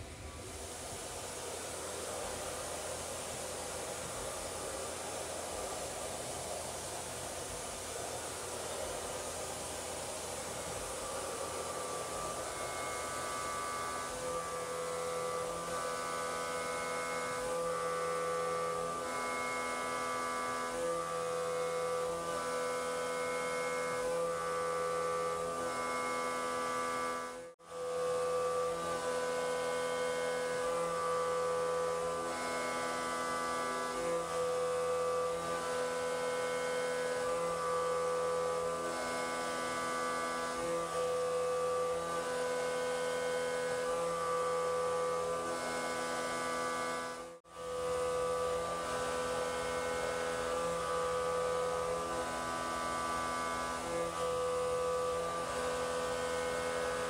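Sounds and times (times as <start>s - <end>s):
milling machine whine: 0.0s - 57.0s.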